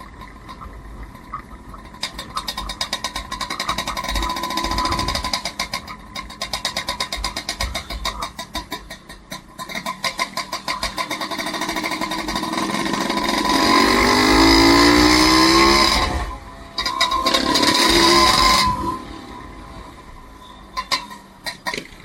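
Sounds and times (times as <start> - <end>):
vehicle engine accelerating: 0.0 - 22.0.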